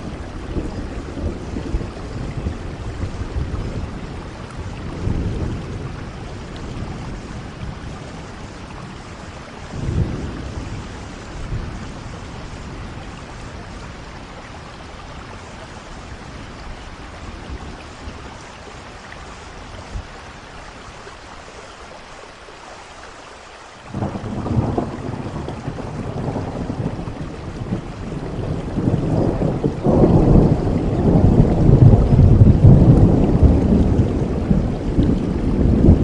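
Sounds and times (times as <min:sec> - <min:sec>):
low rumble of thunder: 0:00.0 - 0:21.0, 0:23.9 - 0:36.0
steady rain falling: 0:00.0 - 0:36.0.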